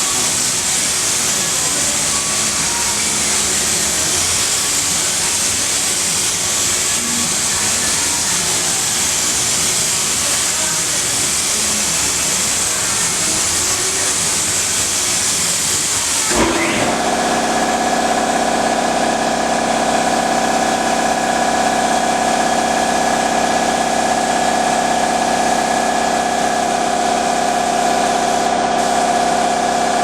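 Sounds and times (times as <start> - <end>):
air tool hissing: 0.0 - 30.0.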